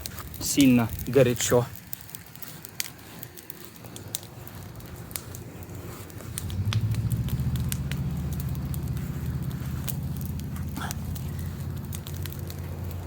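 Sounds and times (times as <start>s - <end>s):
bonfire crackling and popping: 0.0s - 13.0s
steady low motor hum: 1.9s - 13.0s.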